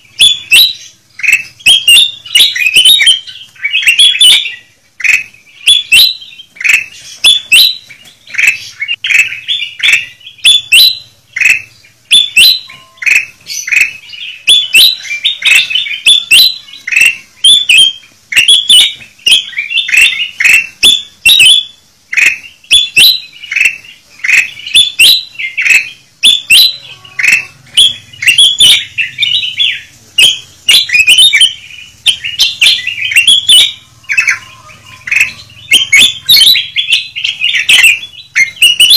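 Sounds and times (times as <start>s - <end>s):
bulbuls calling: 0.0s - 38.9s.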